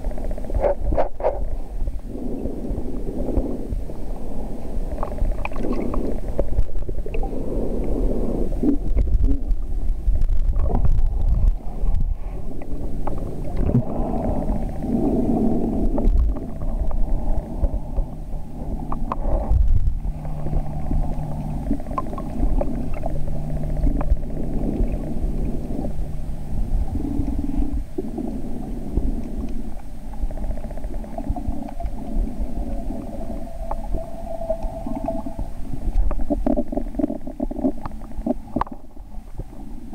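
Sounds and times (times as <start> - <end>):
steady low hum: 0.0 - 39.9
underwater water sloshing: 0.0 - 39.9.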